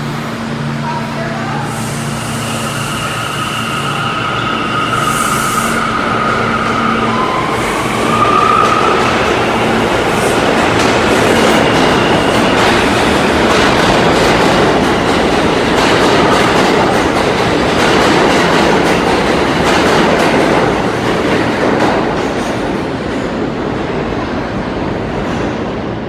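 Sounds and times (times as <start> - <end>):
subway train wheels clattering: 0.0 - 26.0.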